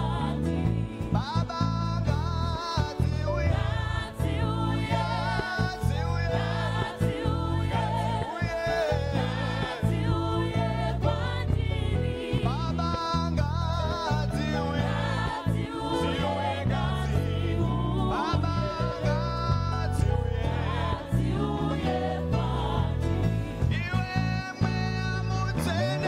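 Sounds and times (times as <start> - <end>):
group of voices singing: 0.0 - 26.0
instrumental backing with bass line: 0.0 - 26.0.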